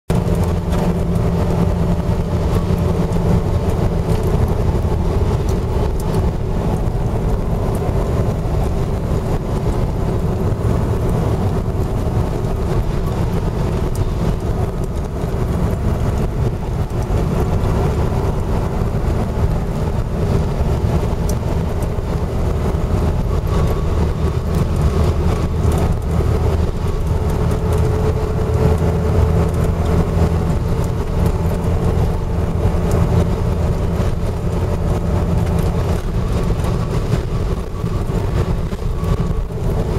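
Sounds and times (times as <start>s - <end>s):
car engine and tyre drone: 0.1s - 39.9s.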